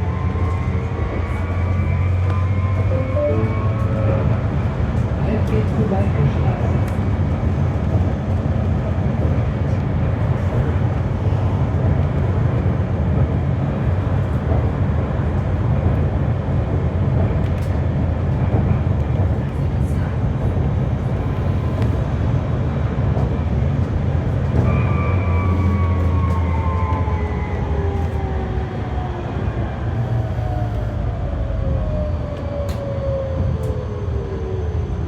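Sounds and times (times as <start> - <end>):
tram rolling along rails: 0.0 - 35.0.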